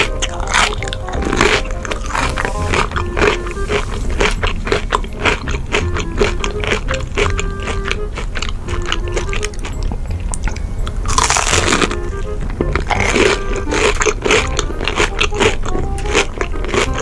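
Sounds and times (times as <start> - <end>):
background music: 0.0 - 17.0
crisp bite: 0.0 - 17.0
crunchy chewing: 0.0 - 17.0.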